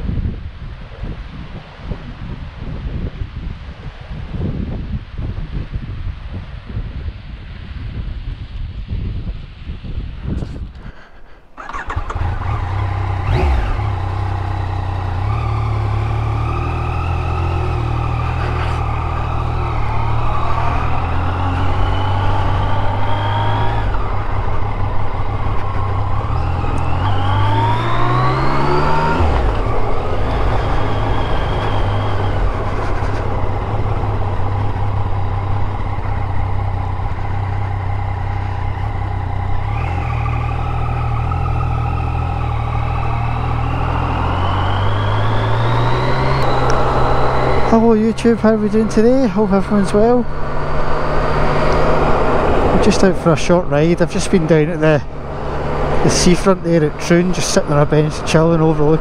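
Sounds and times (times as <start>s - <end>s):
motorcycle engine accelerating: 10.2s - 59.0s.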